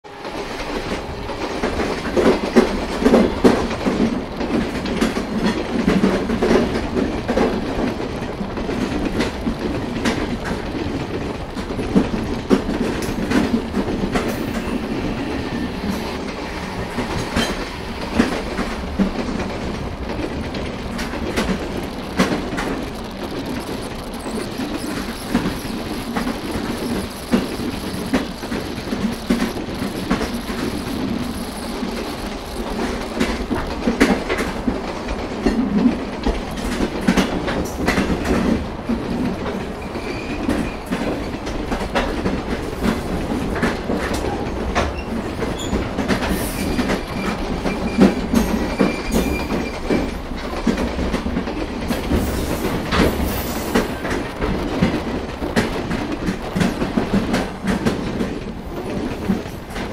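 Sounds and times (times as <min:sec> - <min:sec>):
train wheels rumbling on rail: 0:00.0 - 0:59.9
sharp clicks and knocks from track: 0:00.2 - 0:59.9.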